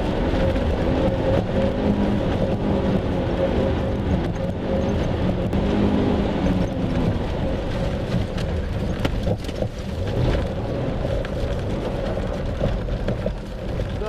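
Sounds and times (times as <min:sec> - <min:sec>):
car engine running while driving: 0:00.0 - 0:14.0.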